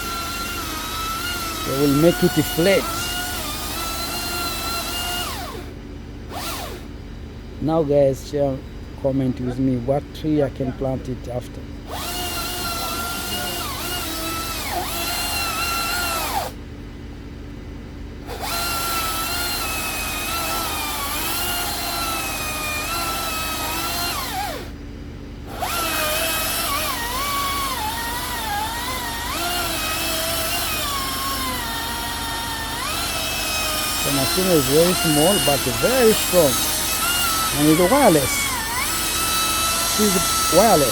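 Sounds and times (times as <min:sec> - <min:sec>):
electric chainsaw cutting wood: 0:00.0 - 0:07.0, 0:11.8 - 0:16.6, 0:18.2 - 0:24.8, 0:25.4 - 0:40.9.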